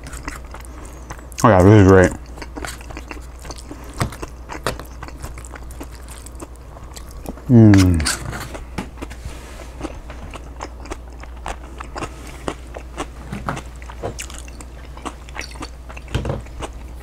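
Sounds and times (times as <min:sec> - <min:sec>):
man chewing close to microphone: 0:00.0 - 0:17.0
steady low hum: 0:00.0 - 0:17.0.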